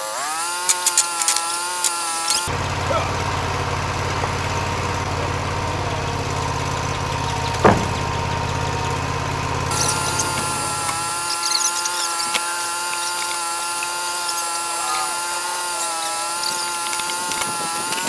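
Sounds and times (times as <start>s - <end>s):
bandsaw sawmill running: 0.0s - 18.0s.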